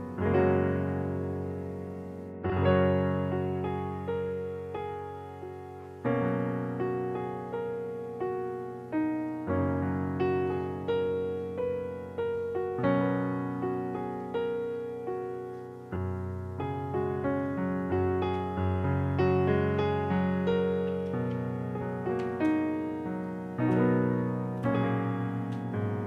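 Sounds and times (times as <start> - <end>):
solo piano music: 0.0 - 26.0.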